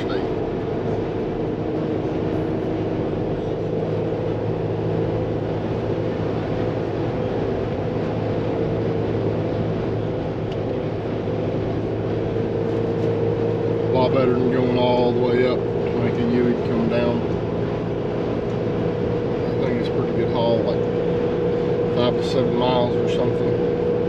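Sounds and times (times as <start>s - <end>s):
tire and engine drone: 0.0s - 24.0s.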